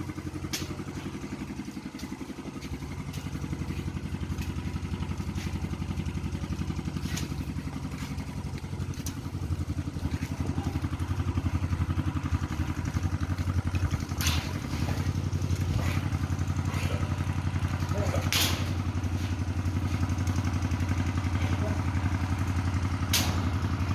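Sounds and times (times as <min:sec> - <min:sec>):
small engine running: 0:00.0 - 0:23.9.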